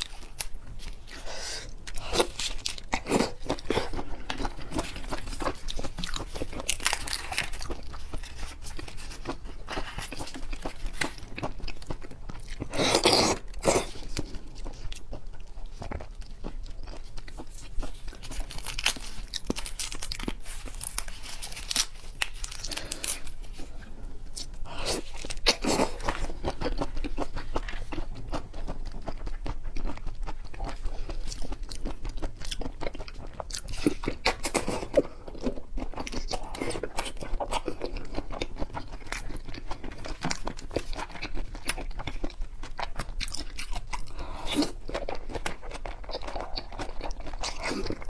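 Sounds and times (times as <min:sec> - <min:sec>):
wet chewing: 0:00.0 - 0:48.0.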